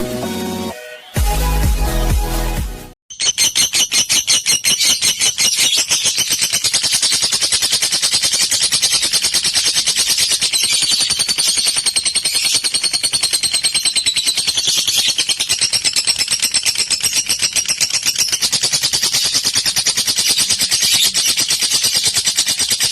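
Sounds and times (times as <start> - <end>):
lovebird chattering: 3.1 - 22.9.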